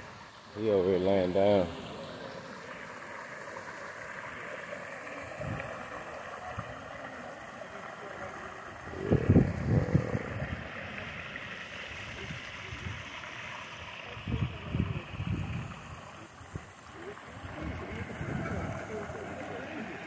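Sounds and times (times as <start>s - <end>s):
running water hissing: 0.0s - 20.0s.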